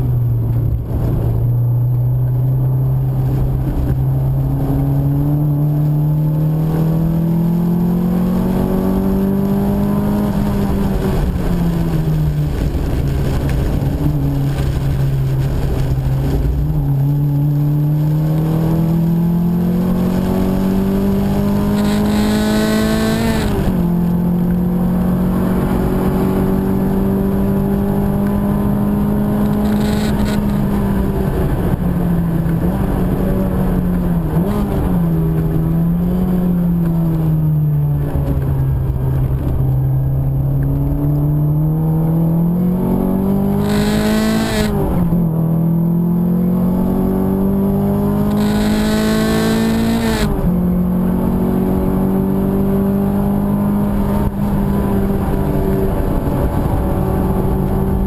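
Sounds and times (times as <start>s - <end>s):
car engine accelerating: 0.0s - 58.0s
tyre and road noise: 0.0s - 58.0s.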